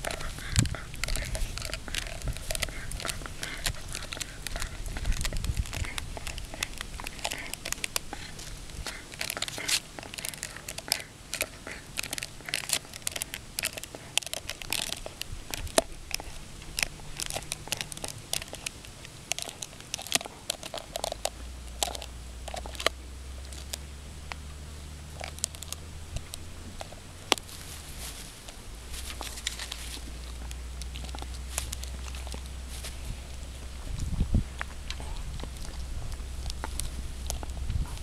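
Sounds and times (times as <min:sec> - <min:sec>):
dog gnawing on a bone: 0:00.0 - 0:38.0
low steady hum: 0:00.0 - 0:38.0.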